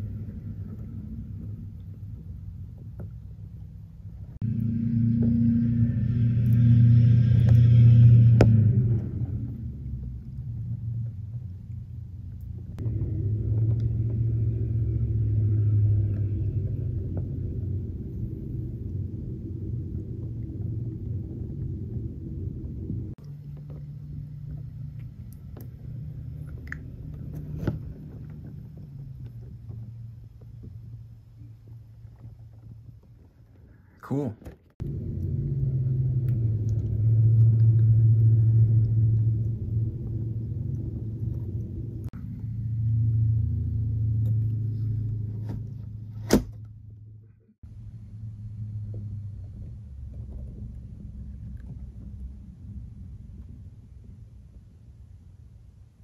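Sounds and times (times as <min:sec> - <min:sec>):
steady low hum: 0:00.0 - 0:56.0
vehicle engine rumbling: 0:00.0 - 0:56.0.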